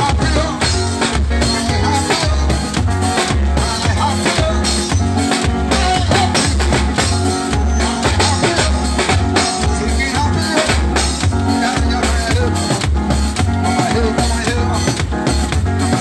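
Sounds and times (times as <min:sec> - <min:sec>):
band music over loudspeakers: 0:00.0 - 0:16.0
drums: 0:00.0 - 0:16.0
heavy bass line: 0:00.0 - 0:16.0.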